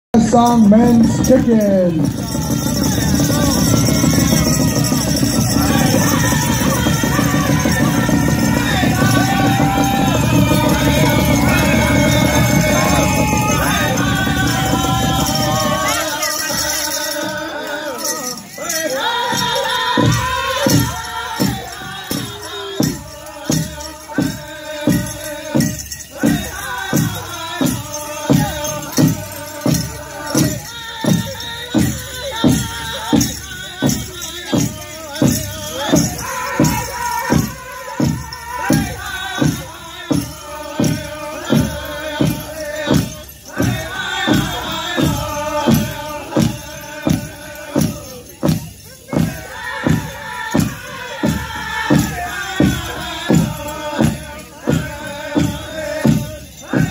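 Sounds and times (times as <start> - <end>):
big drum steady beat: 0.2 - 56.9
men singing: 0.2 - 56.9.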